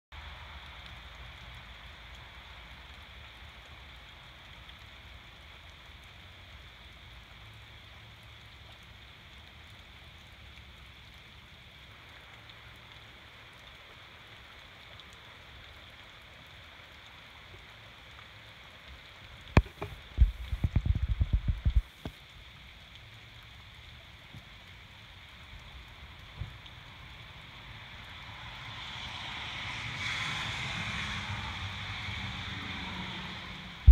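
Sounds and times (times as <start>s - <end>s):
rain falling on river: 0.1s - 33.9s.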